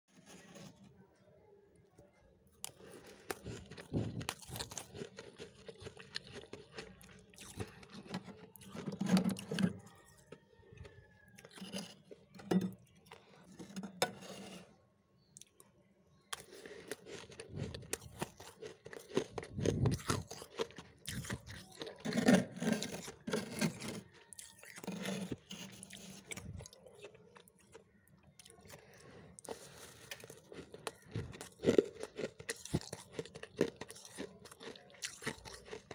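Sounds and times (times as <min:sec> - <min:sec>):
frost being chewed crunching: 0:02.5 - 0:14.1, 0:15.2 - 0:35.9.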